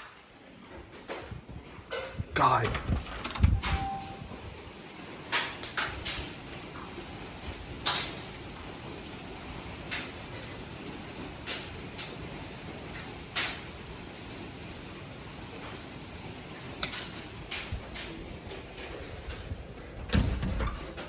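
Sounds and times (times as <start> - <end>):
hailstones striking house: 0.0 - 21.0.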